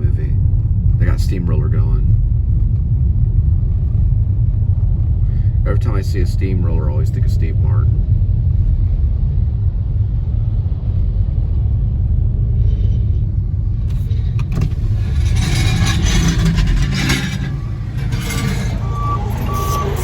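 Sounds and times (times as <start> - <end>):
road and engine rumble: 0.0 - 20.0.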